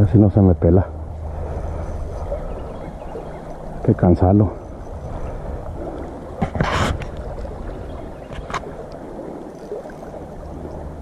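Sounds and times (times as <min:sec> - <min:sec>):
moving water: 0:00.0 - 0:11.0
wind: 0:00.0 - 0:11.0.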